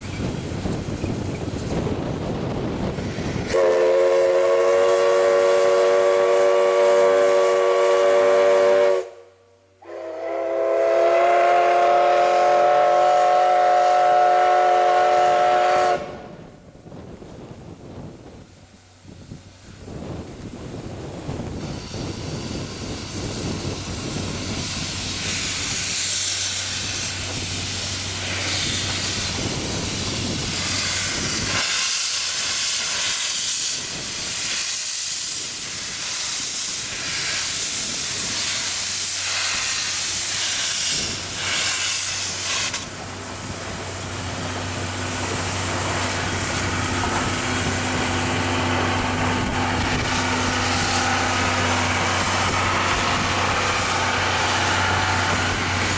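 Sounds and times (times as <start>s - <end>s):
steam hissing: 0.0s - 9.2s, 9.8s - 55.9s
steam locomotive chuffing: 0.0s - 55.9s.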